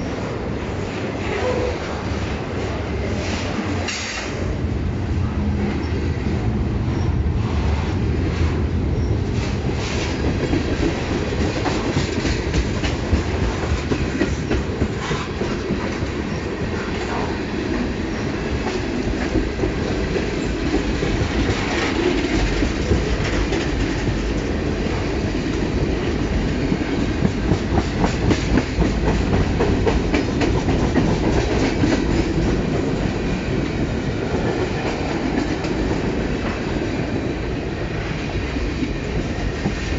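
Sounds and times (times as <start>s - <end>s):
train wheels rumbling and clicking: 0.0s - 39.9s.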